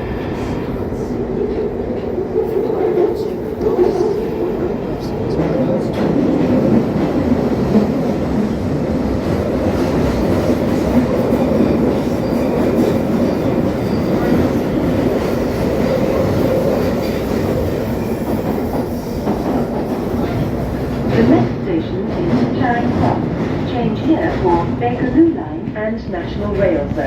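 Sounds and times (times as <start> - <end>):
train rumble from inside carriage: 0.0 - 27.0.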